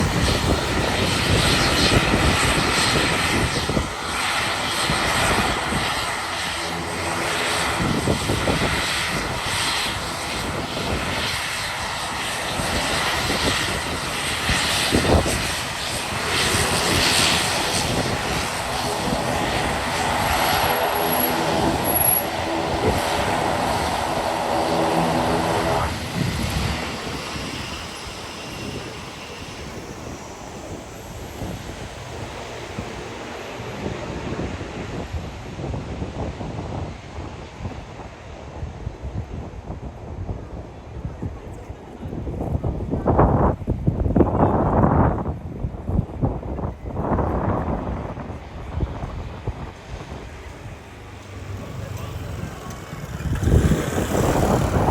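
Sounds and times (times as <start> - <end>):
turboprop propeller drone: 0.0 - 54.9.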